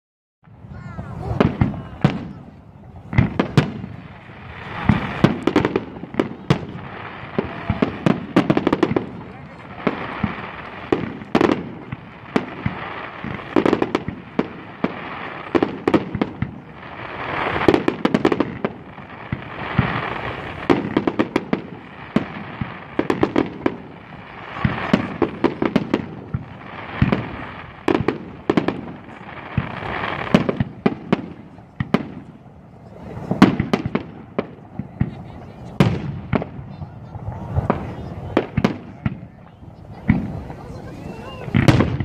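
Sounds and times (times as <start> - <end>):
fireworks bursting with sharp bangs: 0.4 - 42.0
fireworks hiss and crackle: 0.5 - 42.0.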